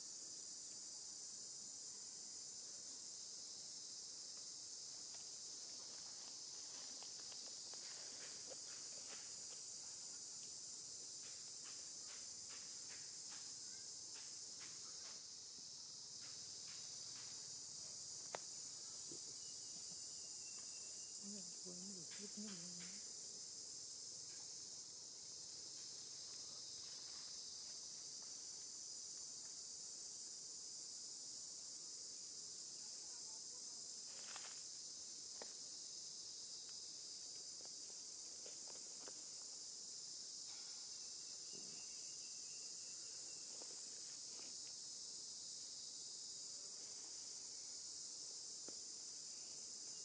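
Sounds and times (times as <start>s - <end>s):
insects buzzing: 0.0s - 50.0s.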